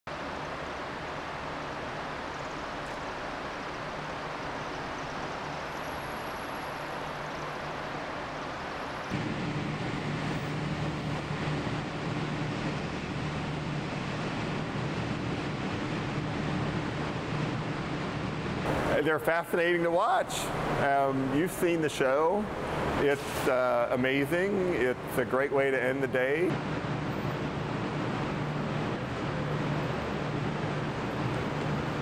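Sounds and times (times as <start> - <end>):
distant traffic: 0.1 - 32.0
steady low hum: 0.1 - 32.0.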